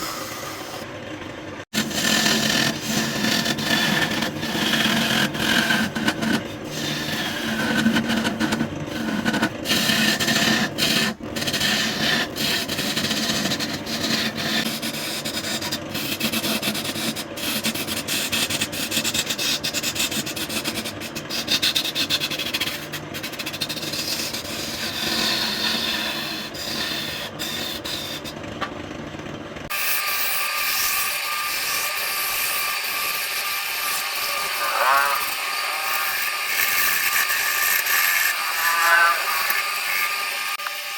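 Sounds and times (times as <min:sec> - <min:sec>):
wood rasping on a lathe: 0:01.7 - 0:28.5, 0:29.7 - 0:40.9.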